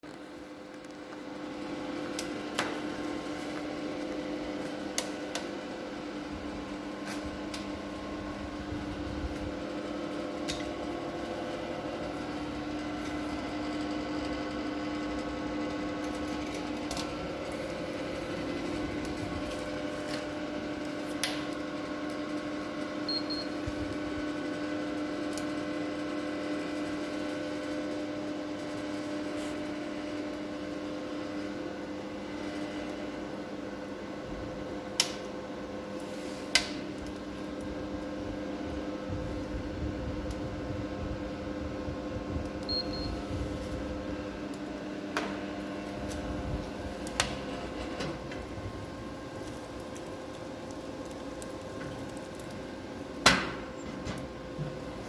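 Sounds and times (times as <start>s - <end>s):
electric fan humming: 0.1s - 55.0s.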